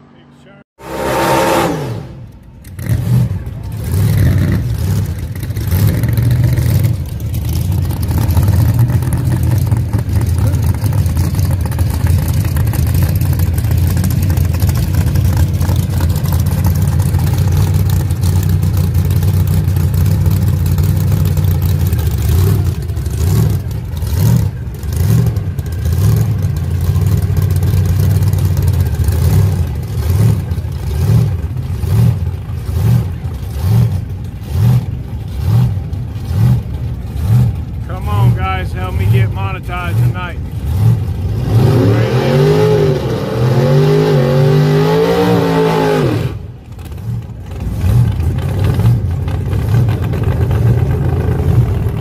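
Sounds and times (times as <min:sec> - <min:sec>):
drag-race car engines surging: 0:00.0 - 0:52.0.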